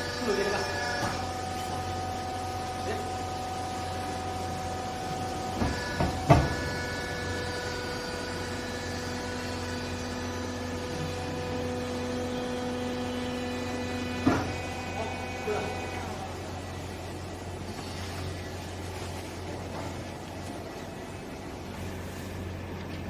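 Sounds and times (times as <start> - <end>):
baling machine motor hum: 0.0 - 23.0.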